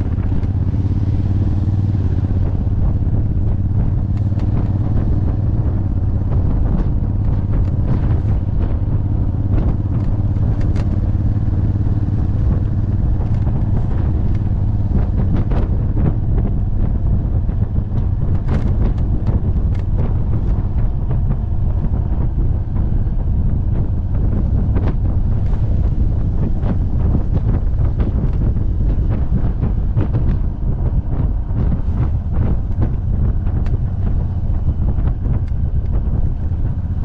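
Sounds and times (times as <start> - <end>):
motorcycle engine cruising: 0.0 - 37.0
wind rushing over microphone: 0.0 - 37.0.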